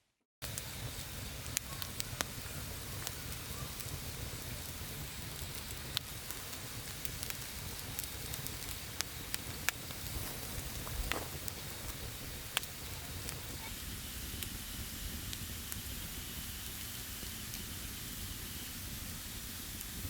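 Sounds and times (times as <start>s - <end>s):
fire hissing: 0.4s - 20.0s
firewood crackling and popping: 0.4s - 20.0s.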